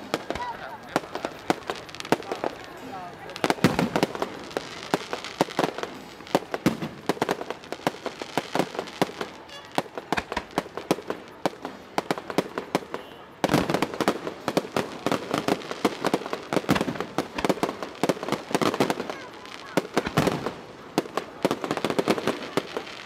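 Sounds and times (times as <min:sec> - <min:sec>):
fireworks cracking and banging: 0:00.0 - 0:23.0.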